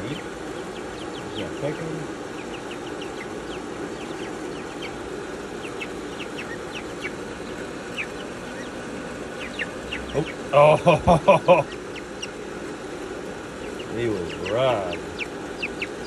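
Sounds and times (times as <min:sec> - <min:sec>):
chickens chirping: 0:00.0 - 0:16.0
steady low hum: 0:00.0 - 0:16.0.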